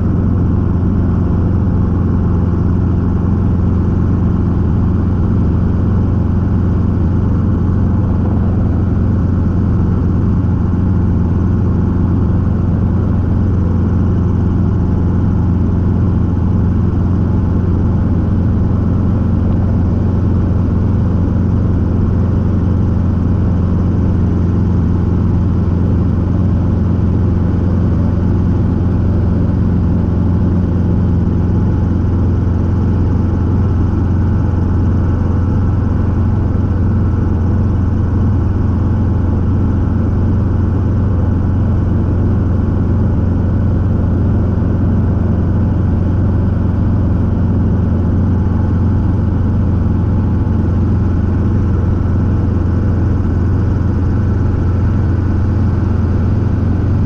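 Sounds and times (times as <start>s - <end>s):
helicopter engine and rotors drone: 0.0s - 57.0s.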